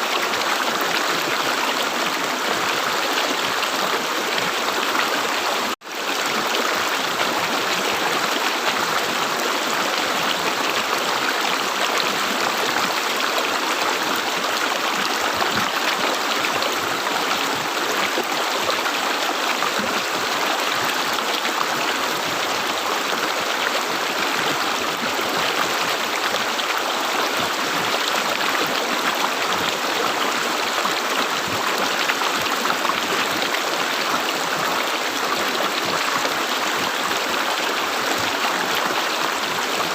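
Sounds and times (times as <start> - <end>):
river water flowing and gurgling: 0.0 - 39.9.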